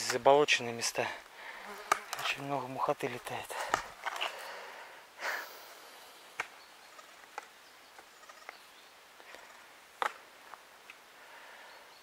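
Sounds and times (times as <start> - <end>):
low outdoor hiss: 0.0 - 12.0.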